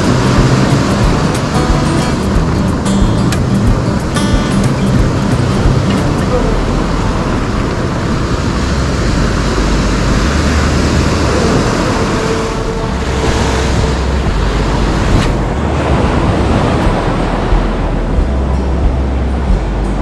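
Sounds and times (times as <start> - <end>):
surf washing up a beach: 0.0 - 20.0
wind buffeting microphone: 0.0 - 20.0.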